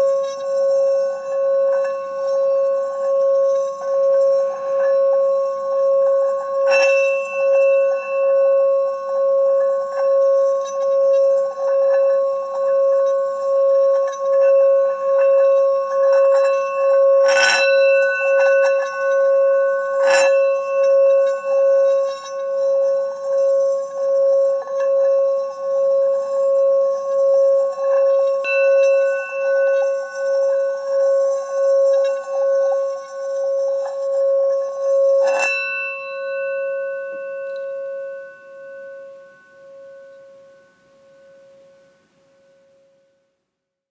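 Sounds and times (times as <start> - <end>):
pulsing bell-like ringing tone: 0.0 - 43.2.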